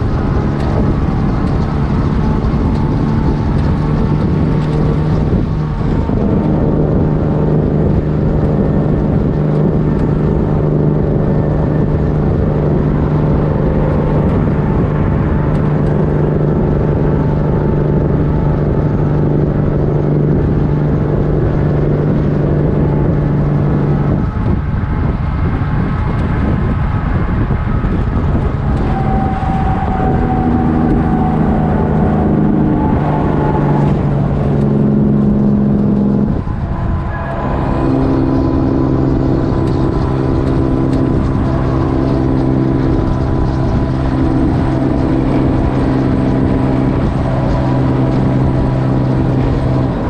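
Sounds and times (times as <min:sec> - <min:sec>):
truck diesel engine running loud: 0:00.0 - 0:50.0.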